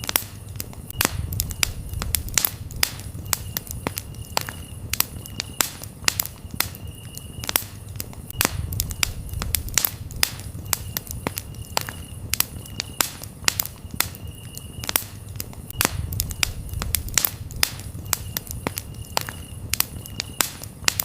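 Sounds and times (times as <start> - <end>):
campfire crackling and popping: 0.0 - 21.0
crickets chirping: 0.0 - 21.0.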